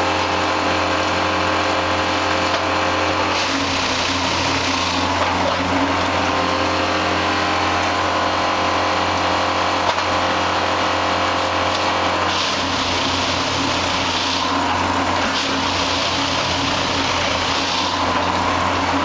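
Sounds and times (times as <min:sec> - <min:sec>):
track maintenance machine engine running: 0:00.0 - 0:19.0.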